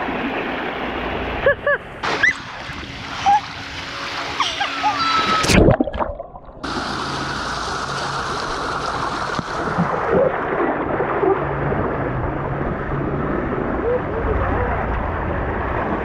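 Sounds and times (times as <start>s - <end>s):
water rushing down a slide: 0.0s - 16.0s.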